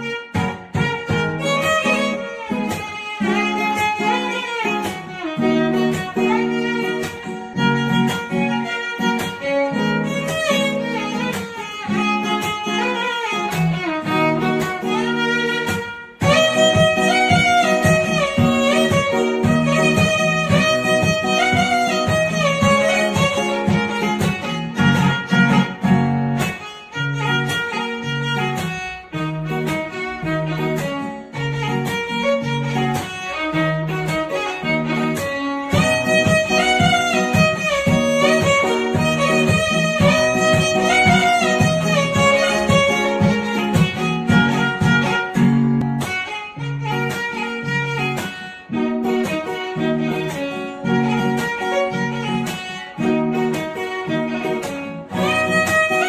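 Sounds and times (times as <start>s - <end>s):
plucked accompaniment and bass: 0.0s - 56.0s
violin-like melody: 0.0s - 56.0s.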